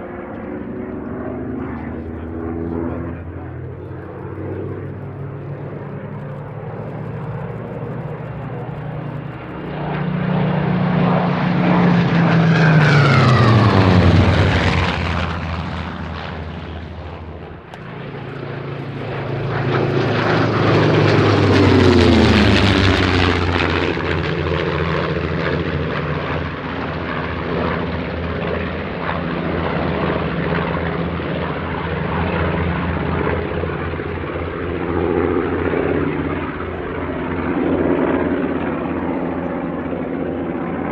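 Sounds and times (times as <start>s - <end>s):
fighter planes passing overhead: 0.0s - 40.9s.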